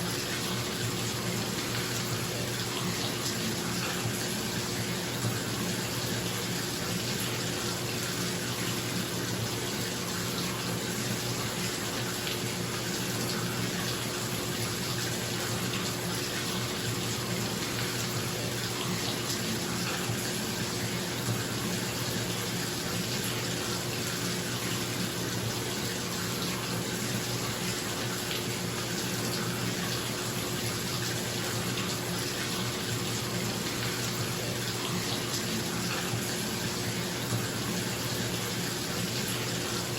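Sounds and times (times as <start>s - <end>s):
faucet running into a tub: 0.0s - 39.9s.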